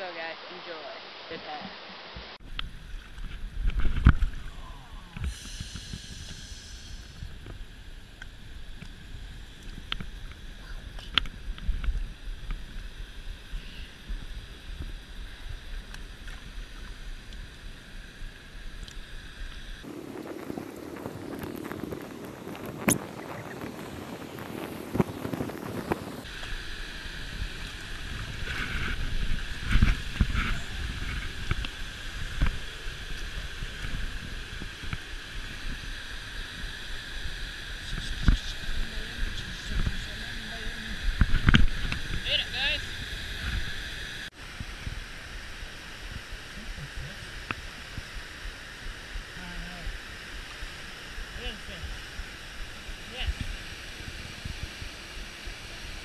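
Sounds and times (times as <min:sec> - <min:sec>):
river current rushing and lapping: 0:00.0 - 0:56.0
wind rumbling on microphone: 0:02.2 - 0:56.0.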